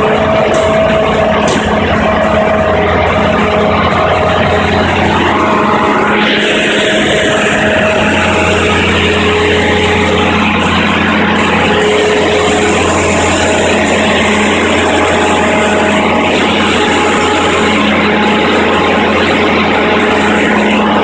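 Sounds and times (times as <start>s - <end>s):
generator engine humming: 0.0s - 21.0s.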